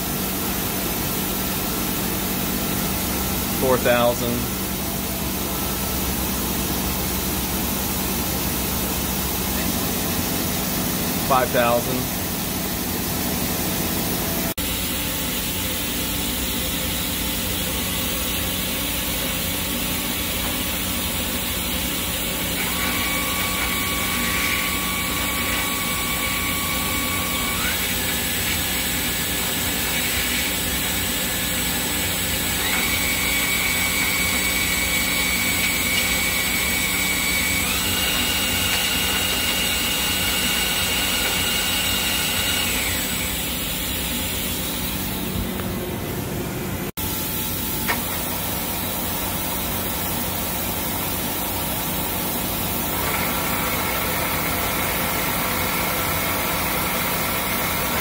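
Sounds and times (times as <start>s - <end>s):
lathe machine hum and hiss: 0.0s - 58.0s.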